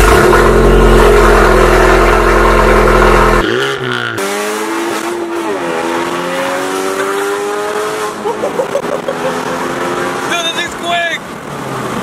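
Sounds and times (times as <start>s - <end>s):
car engine accelerating through gears: 0.0s - 10.4s.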